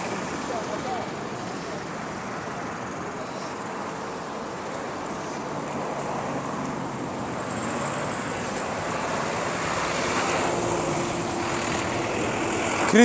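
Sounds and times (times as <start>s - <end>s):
cars and motorcycles passing: 0.0s - 13.0s.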